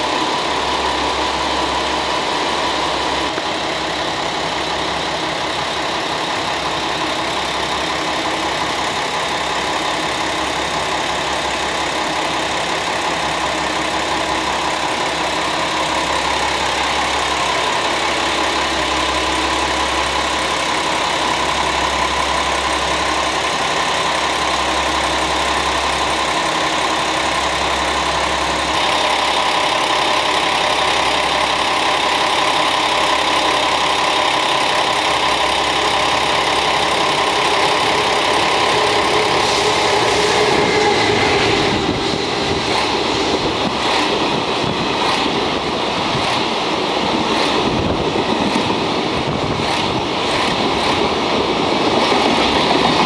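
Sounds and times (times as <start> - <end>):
diesel railcar engines throbbing: 0.0 - 53.0
electric locomotive approaching: 0.0 - 53.0.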